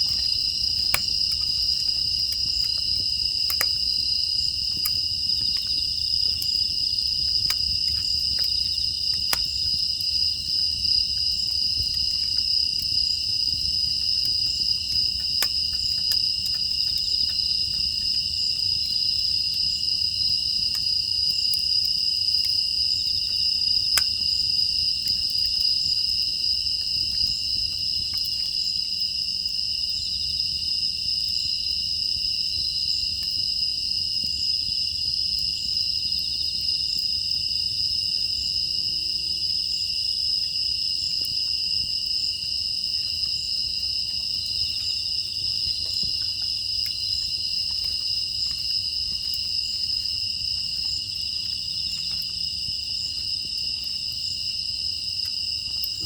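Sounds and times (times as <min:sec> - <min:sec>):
wood fire crackling: 0:00.0 - 0:38.6, 0:39.5 - 0:56.0
crickets chirping: 0:00.0 - 0:56.0.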